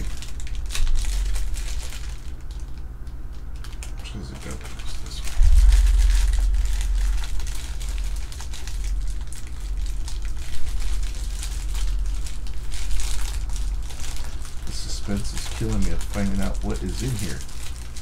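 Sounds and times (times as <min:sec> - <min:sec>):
low hum: 0:00.0 - 0:18.0
plastic bag crinkling: 0:00.0 - 0:18.0.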